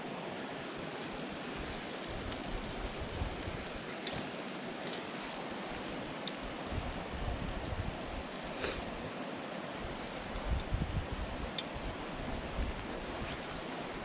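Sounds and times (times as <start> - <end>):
campfire crackling: 0.0 - 14.0
fire popping: 0.0 - 14.0
steady rushing noise: 0.0 - 14.0.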